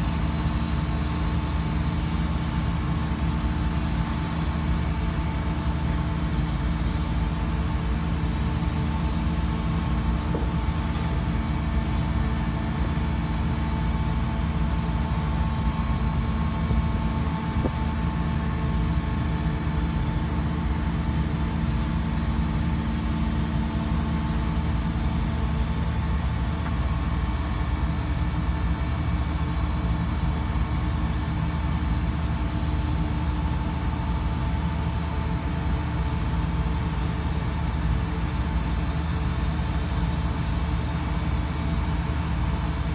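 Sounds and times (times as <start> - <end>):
shotcrete machine running: 0.0 - 39.9.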